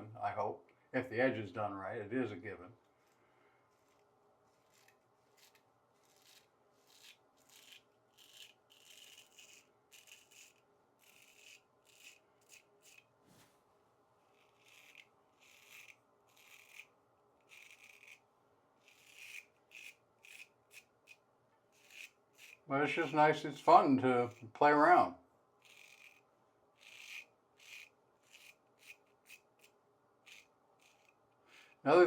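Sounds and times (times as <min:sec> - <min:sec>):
razor scraping stubble: 0:02.9 - 0:13.5, 0:14.2 - 0:25.0, 0:25.6 - 0:31.3.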